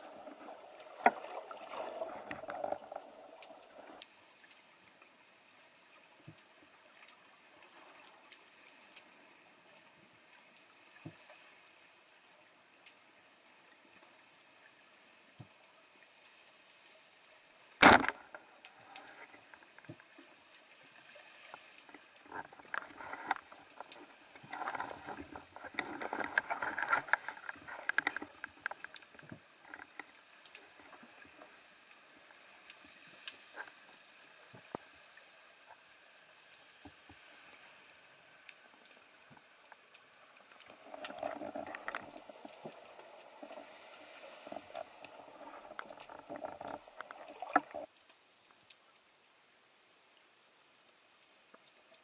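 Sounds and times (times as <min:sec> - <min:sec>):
underwater crackling and clicking: 0:00.0 - 0:52.0.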